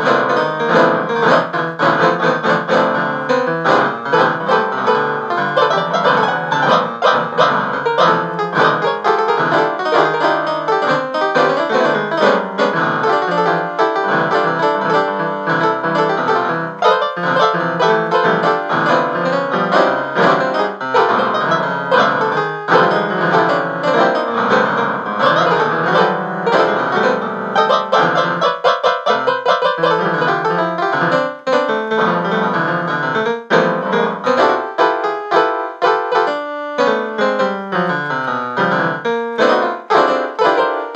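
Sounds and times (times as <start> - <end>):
piano music: 0.0 - 40.9.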